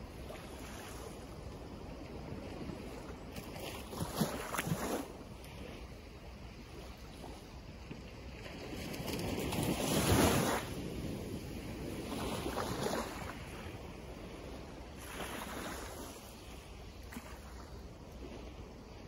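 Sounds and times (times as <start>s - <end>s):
small waves washing up beach: 0.0s - 19.0s.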